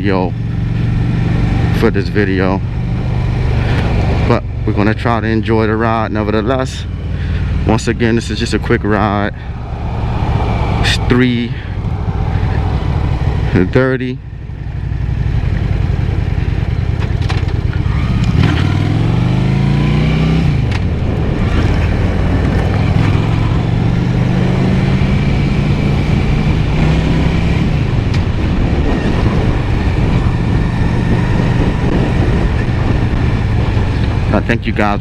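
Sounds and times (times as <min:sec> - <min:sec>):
motorcycle engine accelerating: 0:00.0 - 0:35.0
wind buffeting microphone: 0:00.4 - 0:35.0.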